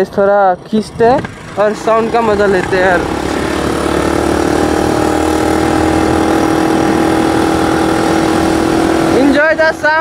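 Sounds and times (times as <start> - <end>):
scooter engine droning: 0.0 - 10.0.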